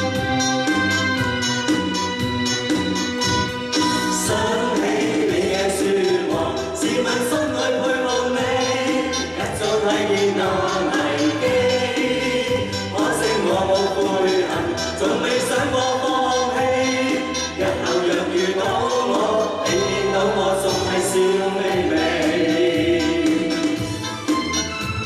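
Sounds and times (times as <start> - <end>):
music backing track: 0.0 - 25.0
group singing in unison: 3.7 - 24.2.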